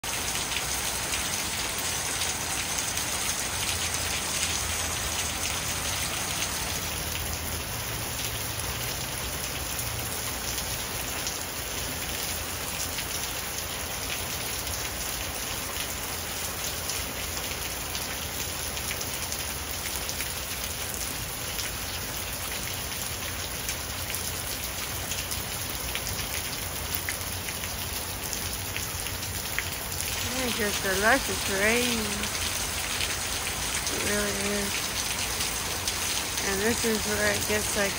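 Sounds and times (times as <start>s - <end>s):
heavy rain on roof: 0.0s - 37.9s.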